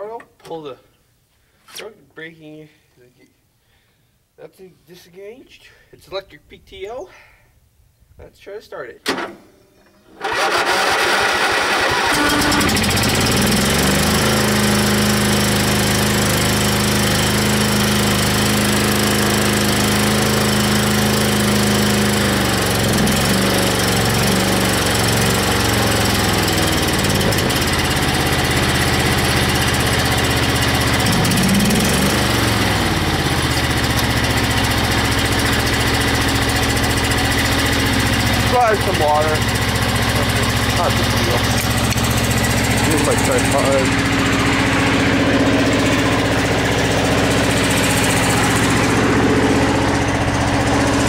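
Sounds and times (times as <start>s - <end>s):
lawn tractor engine running: 10.1s - 51.0s.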